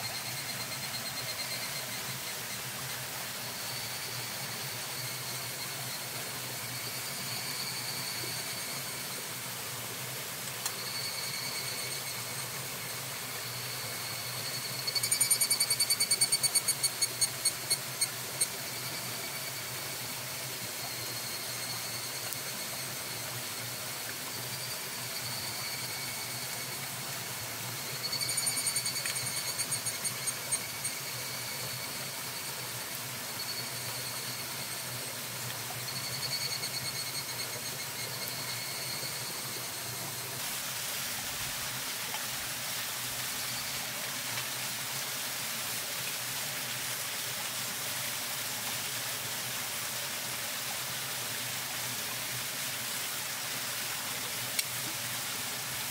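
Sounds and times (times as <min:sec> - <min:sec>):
faint high whine: 0:00.0 - 0:55.9
rushing stream: 0:00.0 - 0:55.9.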